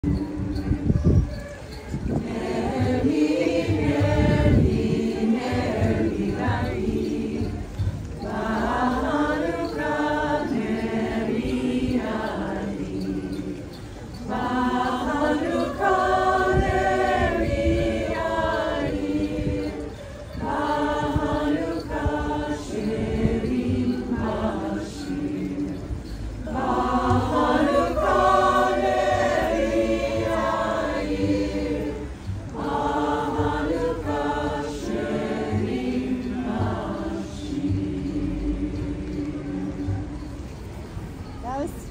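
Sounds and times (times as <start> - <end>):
mixed choir singing unaccompanied: 0.0 - 41.9.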